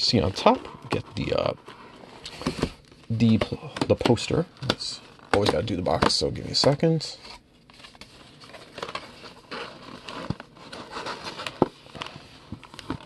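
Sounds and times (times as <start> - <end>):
cardboard rustling and scraping: 0.0 - 13.0.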